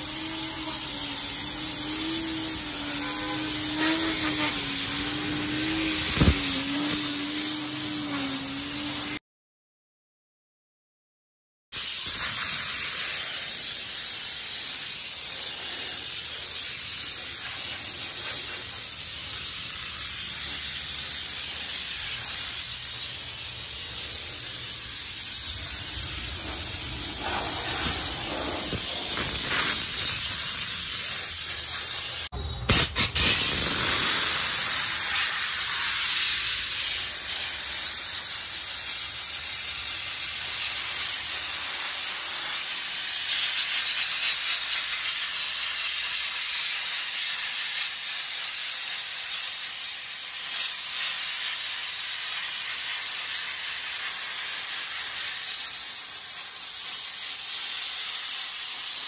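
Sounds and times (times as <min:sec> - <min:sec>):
steam cleaner hissing: 0:00.0 - 0:09.2, 0:11.8 - 0:59.0.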